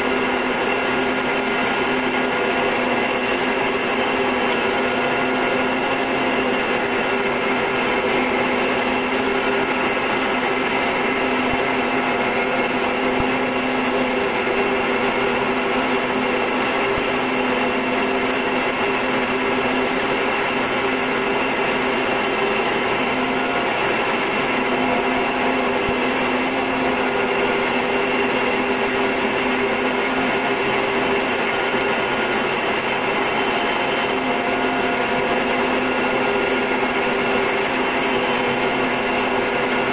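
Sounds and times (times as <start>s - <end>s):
turboprop engine droning: 0.0s - 39.9s.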